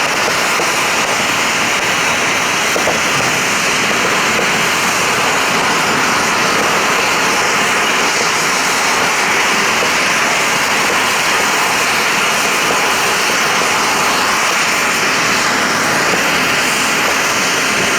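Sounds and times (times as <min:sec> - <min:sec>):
firework fountain hissing: 0:00.0 - 0:17.9.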